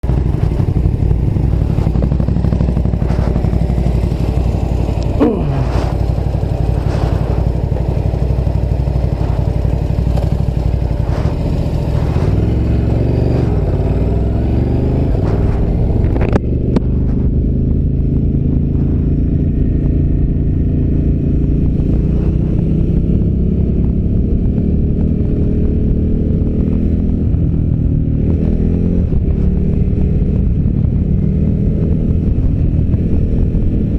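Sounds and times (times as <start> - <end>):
motorcycle engine running: 0.0 - 33.9
wind noise on microphone: 0.0 - 33.9.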